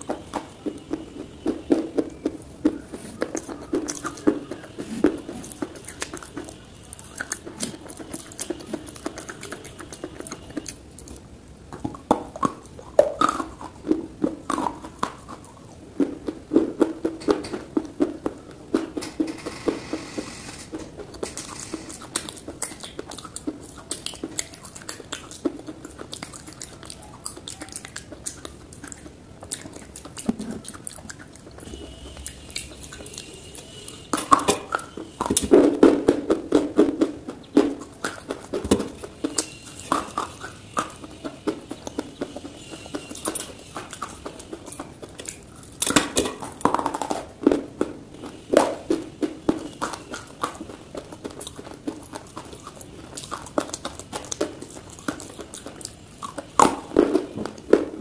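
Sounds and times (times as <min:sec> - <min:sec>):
chewing crunchy clay: 0:00.0 - 0:19.9, 0:20.7 - 0:58.0.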